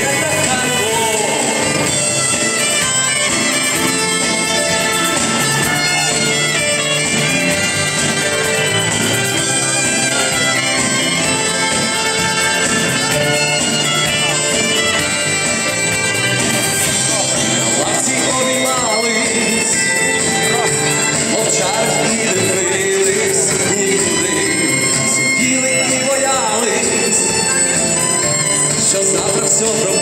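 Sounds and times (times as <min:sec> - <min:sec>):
orchestra with violins playing: 0:00.0 - 0:30.0.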